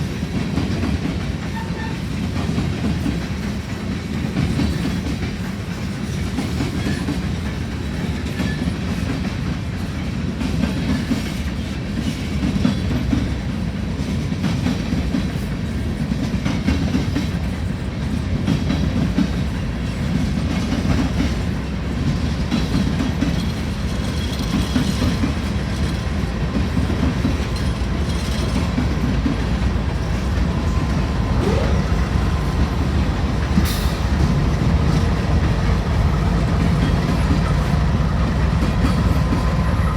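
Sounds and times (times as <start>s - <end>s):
freight train rumble: 0.0s - 39.9s
train wheels clicking on rail joints: 0.0s - 39.9s.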